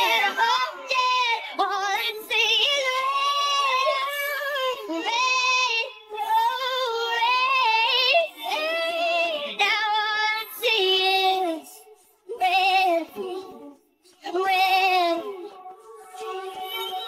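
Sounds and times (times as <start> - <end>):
pitched-up female vocal singing: 0.0 - 17.0.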